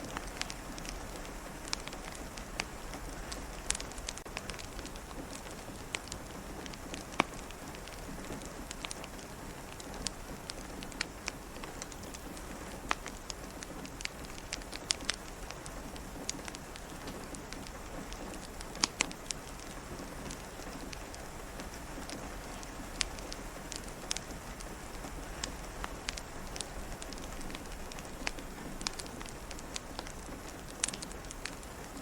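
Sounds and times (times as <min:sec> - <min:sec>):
log fire crackling: 0:00.0 - 0:32.0
steady rain: 0:00.0 - 0:32.0.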